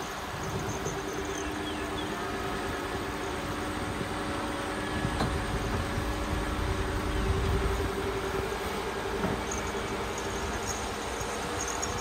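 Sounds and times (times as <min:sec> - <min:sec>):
low engine hum: 0:00.0 - 0:12.0
tyre and road noise: 0:00.0 - 0:12.0.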